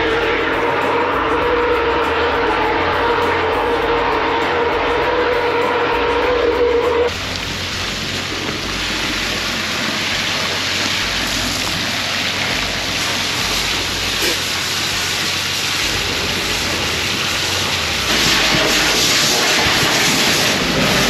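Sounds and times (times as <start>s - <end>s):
low hum: 0.0s - 21.0s
water jet spraying: 0.0s - 21.0s.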